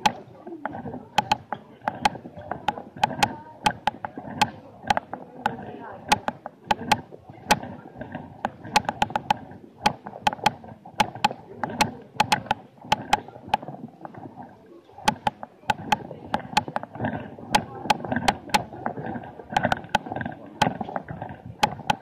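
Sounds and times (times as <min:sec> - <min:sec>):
crowd murmuring: 0:00.0 - 0:22.0
sharp clicks and knocks: 0:00.0 - 0:22.0.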